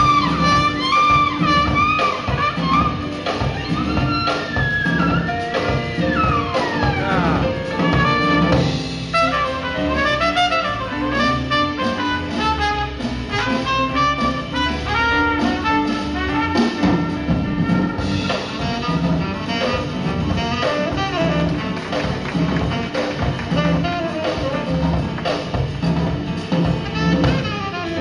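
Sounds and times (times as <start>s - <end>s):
band playing: 0.0s - 28.0s
horn melody: 0.0s - 28.0s.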